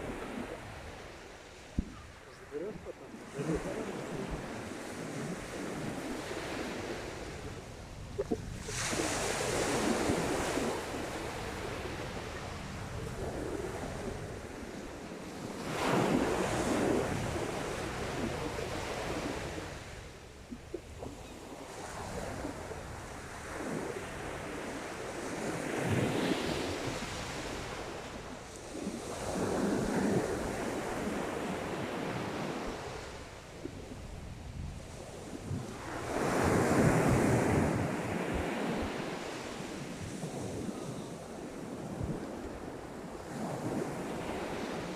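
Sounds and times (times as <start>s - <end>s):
sea waves breaking on shore: 0.0s - 44.9s
wind on microphone: 0.0s - 44.9s.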